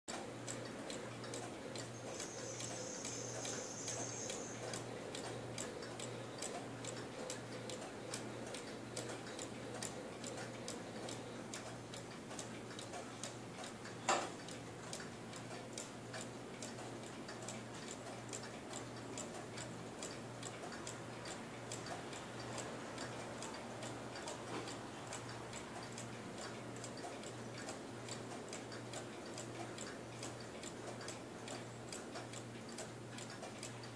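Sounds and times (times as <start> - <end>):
cuckoo clock ticking: 0.1 - 33.9.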